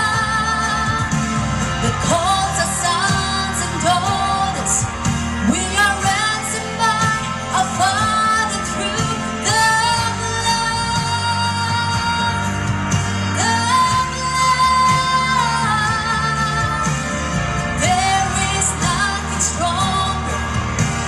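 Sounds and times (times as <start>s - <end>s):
woman singing gospel: 0.0s - 20.7s
instrumental accompaniment: 0.0s - 21.0s.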